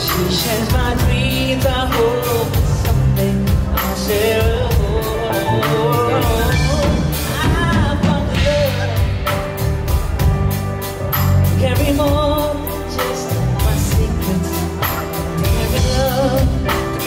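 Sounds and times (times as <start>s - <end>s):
person singing with vibrato: 0.0s - 9.6s, 11.2s - 17.0s
bass line: 0.0s - 17.0s.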